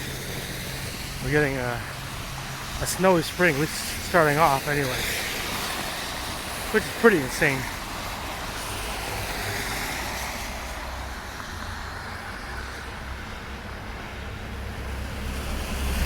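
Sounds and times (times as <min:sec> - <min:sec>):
tyres hissing on wet road: 0:00.0 - 0:16.0.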